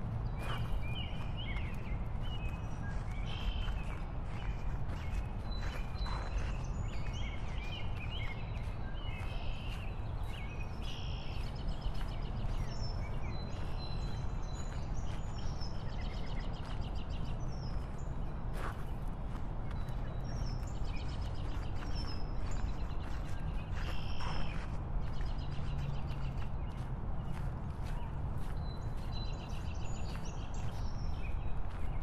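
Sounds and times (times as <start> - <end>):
birds chirping: 0.1 - 32.0.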